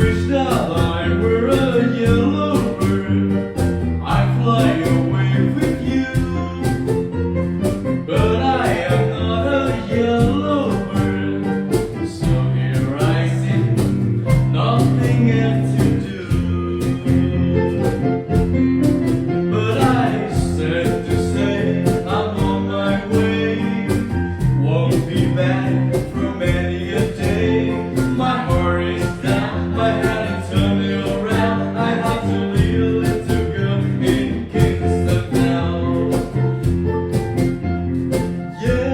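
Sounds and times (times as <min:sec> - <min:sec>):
acoustic guitar strumming: 0:05.9 - 0:38.9.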